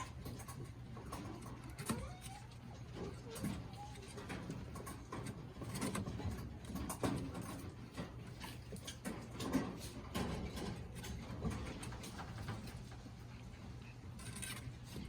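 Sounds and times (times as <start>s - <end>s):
puppies scuffling: 0.0s - 15.0s
puppy noises: 0.0s - 15.0s.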